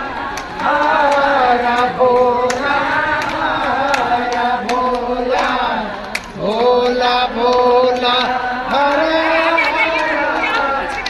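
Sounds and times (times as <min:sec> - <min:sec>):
voices chanting a melody: 0:00.0 - 0:11.0.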